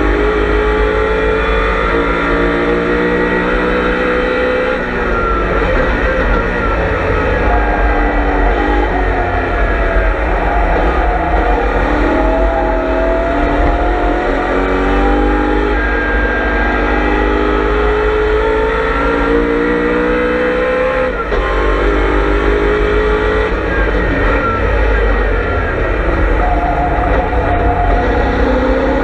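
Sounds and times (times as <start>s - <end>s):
race car engine accelerating: 0.0s - 29.0s.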